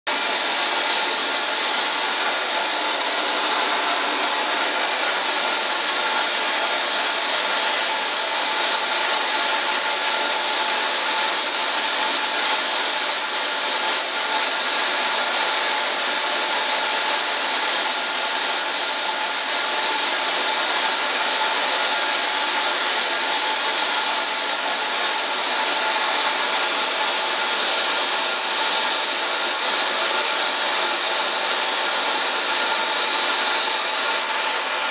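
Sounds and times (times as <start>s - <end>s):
jet turbine running: 0.1s - 34.9s.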